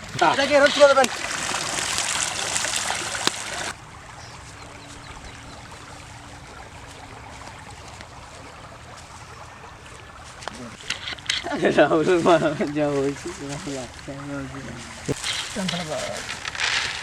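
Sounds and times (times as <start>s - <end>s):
loud splashing water: 0.0s - 17.0s
river water trickling: 0.0s - 17.0s.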